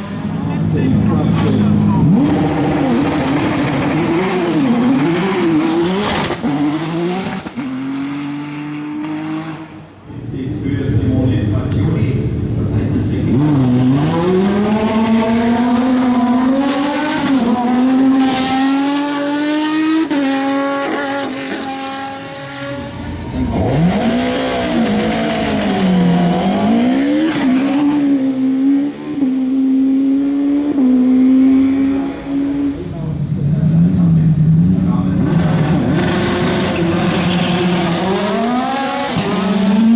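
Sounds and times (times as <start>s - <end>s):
race car accelerating with upshifts: 0.0s - 39.9s
race car engine revving: 0.0s - 39.9s.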